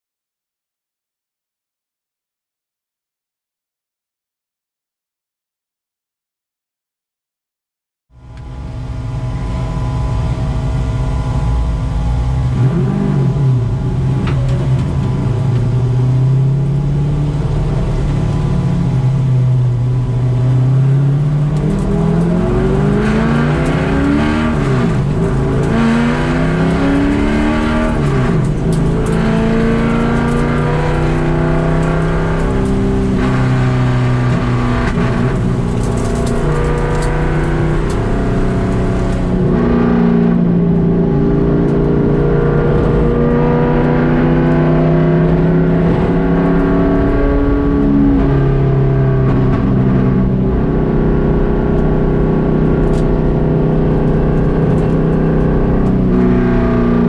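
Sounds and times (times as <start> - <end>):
race car engine revving: 8.3 - 57.0.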